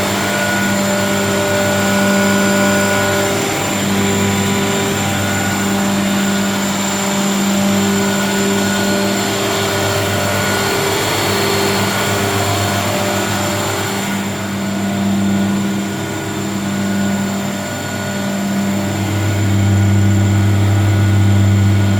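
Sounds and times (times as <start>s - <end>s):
machine hum with held tones: 0.0s - 21.9s.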